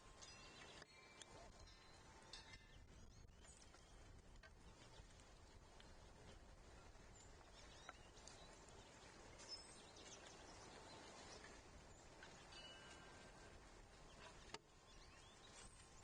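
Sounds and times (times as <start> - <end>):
distant bird chirps: 0.0 - 16.0.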